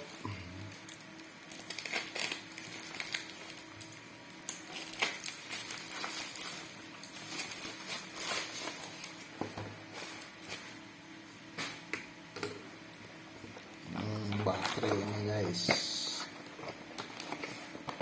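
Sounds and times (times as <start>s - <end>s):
packaging crinkling and rustling: 0.0s - 10.8s, 14.1s - 18.0s.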